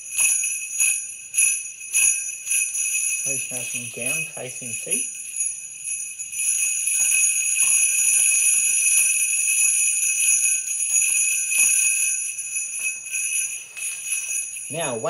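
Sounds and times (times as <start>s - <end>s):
sleigh bells jingling: 0.0s - 15.0s.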